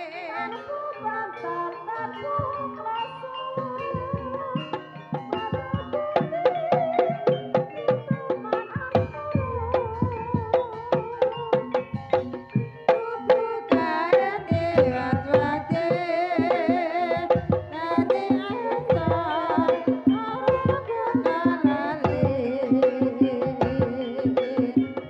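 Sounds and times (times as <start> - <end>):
wavering held melody: 0.0 - 25.0.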